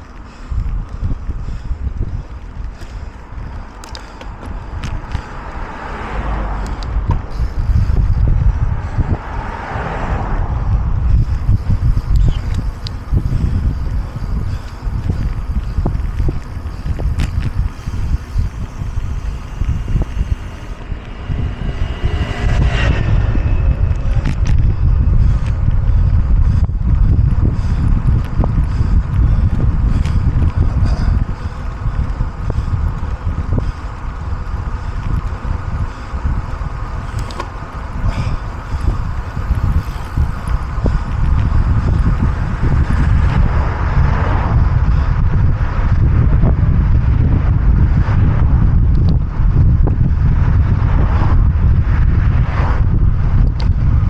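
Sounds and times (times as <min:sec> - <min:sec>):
wind rumbling on microphone: 0:00.0 - 0:54.0.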